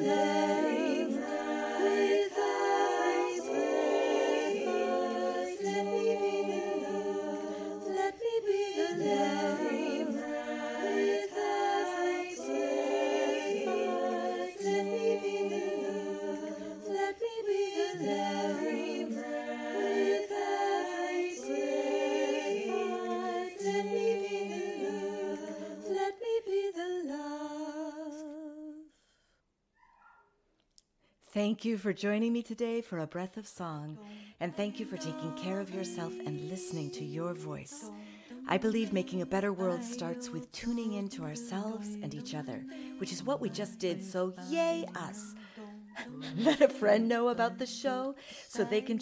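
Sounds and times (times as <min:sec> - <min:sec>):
a cappella vocal harmony: 0:00.0 - 0:29.4, 0:33.9 - 0:49.0.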